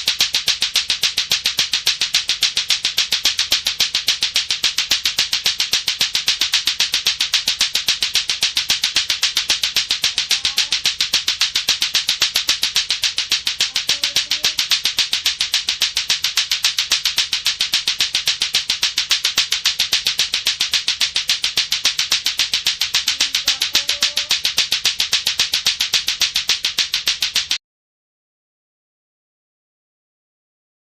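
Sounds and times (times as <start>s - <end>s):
clacker toy balls clacking: 0.0s - 27.6s.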